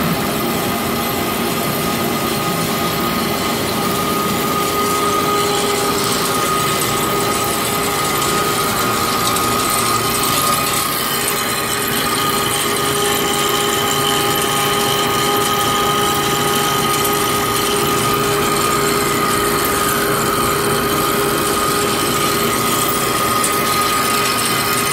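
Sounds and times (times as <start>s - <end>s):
lathe cutting metal: 0.0s - 24.9s
machine whine: 0.0s - 24.9s.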